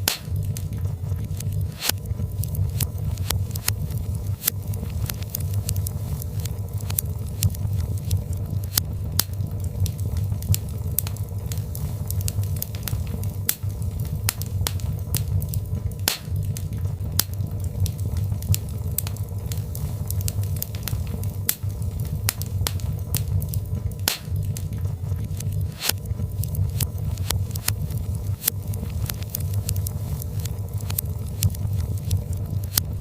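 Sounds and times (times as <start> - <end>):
logs crackling in fireplace: 0.0 - 33.0.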